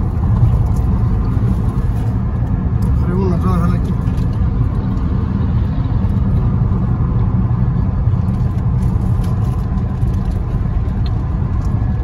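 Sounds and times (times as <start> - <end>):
car driving at highway speed: 0.0 - 12.0.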